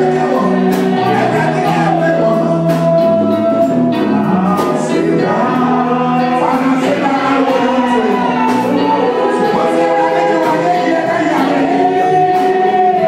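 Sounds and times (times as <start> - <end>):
choir singing: 0.0 - 13.0
instrumental accompaniment: 0.0 - 13.0.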